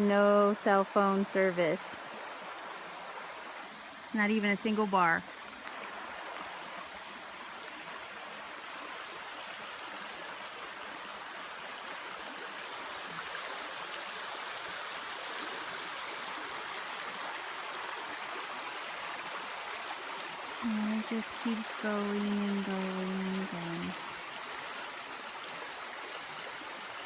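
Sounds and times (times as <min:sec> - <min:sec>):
creek water running over stones: 0:00.0 - 0:27.0.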